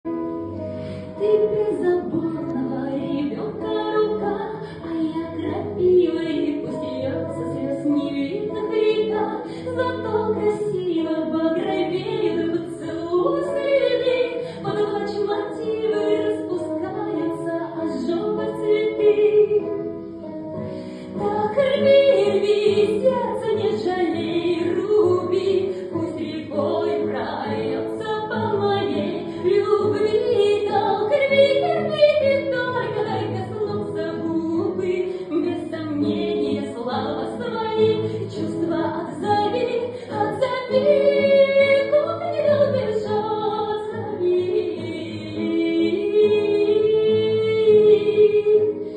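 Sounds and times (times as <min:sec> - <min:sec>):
musical backing: 0:00.0 - 0:48.9
woman singing: 0:00.5 - 0:48.9.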